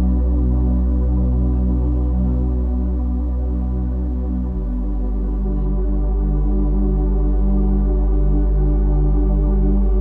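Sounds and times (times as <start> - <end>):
low drone: 0.0 - 10.0.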